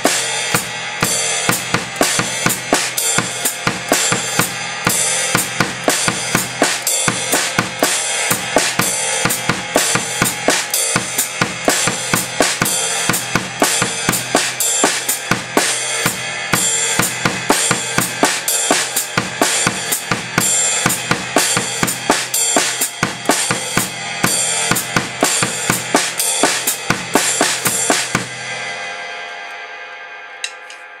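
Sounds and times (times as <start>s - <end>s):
hi-hat closed by foot: 0.0s - 28.3s
bass drum: 0.0s - 28.4s
ride cymbal: 0.0s - 28.8s
snare drum: 1.5s - 16.2s, 17.0s - 24.0s, 24.7s - 28.3s.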